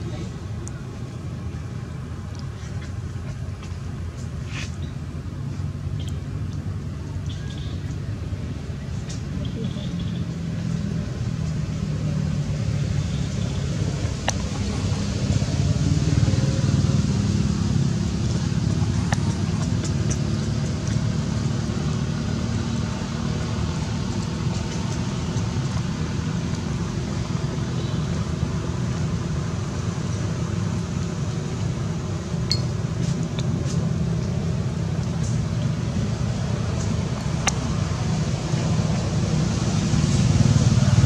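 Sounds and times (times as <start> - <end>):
low outdoor rumble: 0.0 - 41.0.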